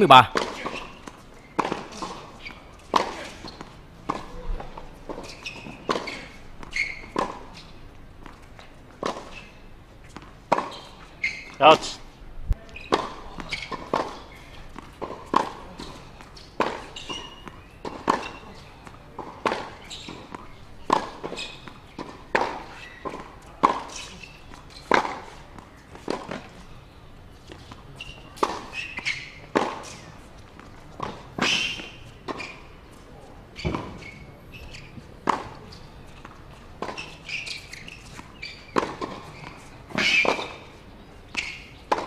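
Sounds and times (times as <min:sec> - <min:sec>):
tennis racquets hitting ball: 0:00.3 - 0:11.6, 0:12.8 - 0:26.7, 0:27.4 - 0:32.7, 0:33.6 - 0:42.0.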